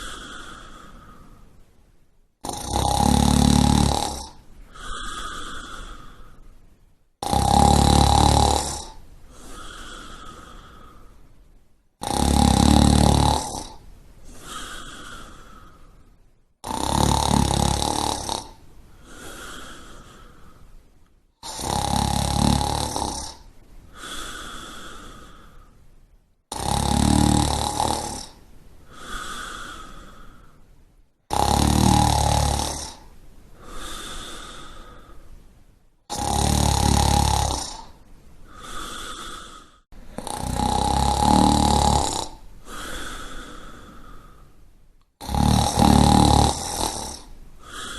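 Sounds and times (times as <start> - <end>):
person snoring: 0.0 - 1.4, 2.4 - 6.4, 7.2 - 11.2, 12.0 - 20.7, 21.4 - 25.8, 26.5 - 30.6, 31.3 - 35.2, 36.1 - 44.5, 45.2 - 47.9.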